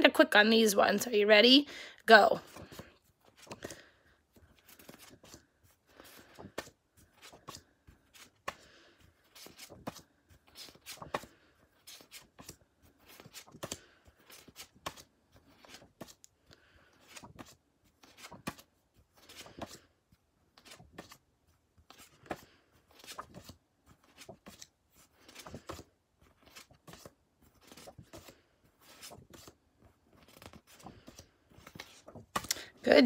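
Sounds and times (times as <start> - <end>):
paper cards rustling and tapping: 2.4 - 19.9, 20.5 - 21.2, 21.8 - 32.8.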